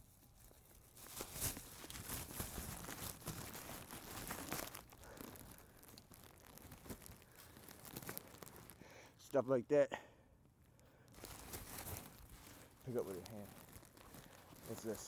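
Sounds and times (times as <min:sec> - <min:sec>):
plastic trash bag crinkling: 0:00.0 - 0:09.4, 0:10.8 - 0:15.0.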